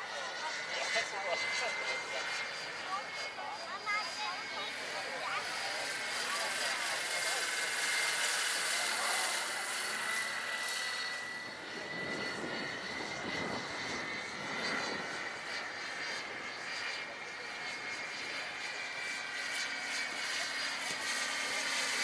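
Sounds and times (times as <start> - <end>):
helicopter rotors rushing: 0.0 - 22.0
electric motor whine: 1.0 - 22.0.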